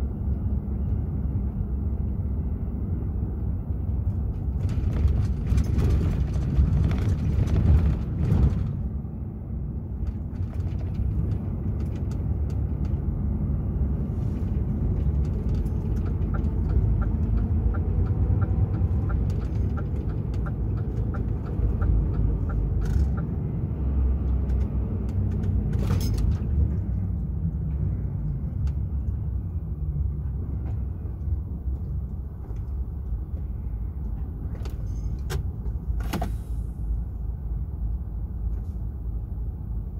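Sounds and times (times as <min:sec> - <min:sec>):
truck diesel engine rumble: 0:00.0 - 0:39.9.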